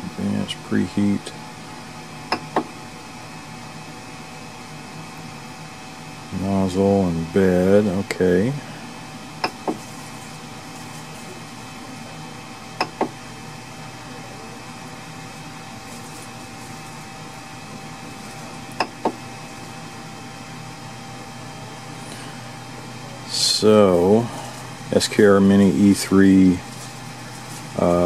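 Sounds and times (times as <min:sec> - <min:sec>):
faint steady whine: 0:00.0 - 0:28.0
printer fans humming: 0:00.0 - 0:28.0.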